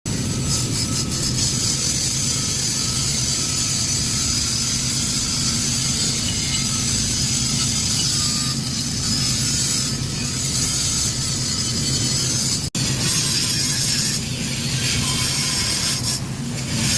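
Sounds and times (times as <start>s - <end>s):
welding arc crackle and hiss: 0.1s - 16.9s.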